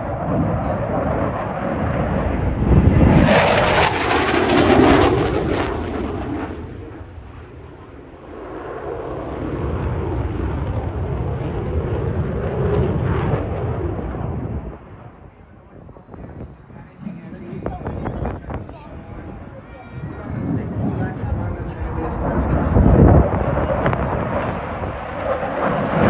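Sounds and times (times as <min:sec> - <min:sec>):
fighter jet engine roar: 0:00.0 - 0:26.0.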